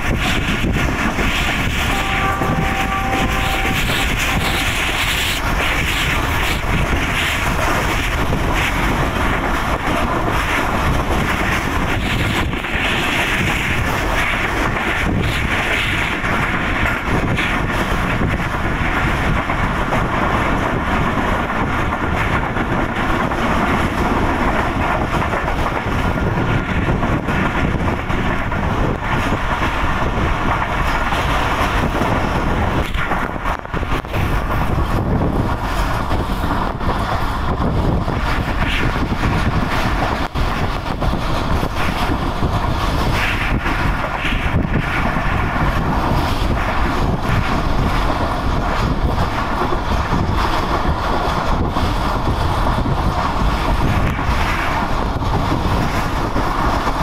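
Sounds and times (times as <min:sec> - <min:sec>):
rush of wind: 0:00.0 - 0:57.0
train wheels rumbling on rails: 0:00.0 - 0:57.0.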